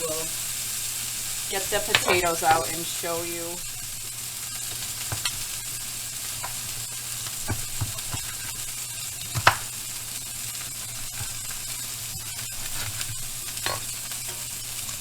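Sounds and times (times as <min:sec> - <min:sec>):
burger patties sizzling in a pan: 0:00.0 - 0:15.0.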